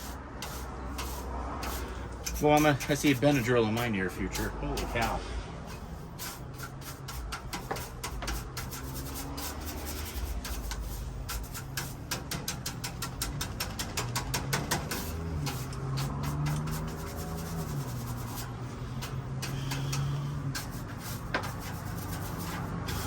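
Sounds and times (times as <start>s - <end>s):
small brush scrubbing: 0.0s - 13.0s, 14.6s - 23.0s.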